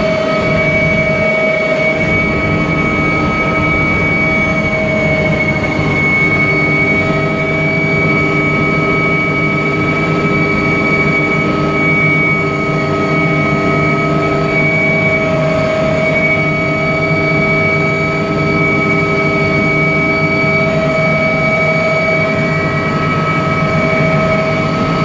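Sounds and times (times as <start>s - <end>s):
helicopter engines and rotor: 0.0s - 25.0s.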